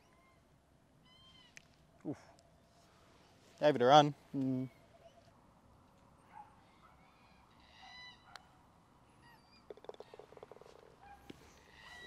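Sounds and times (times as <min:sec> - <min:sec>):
faint bird calls: 0:00.0 - 0:03.5, 0:04.4 - 0:05.4, 0:06.2 - 0:12.0.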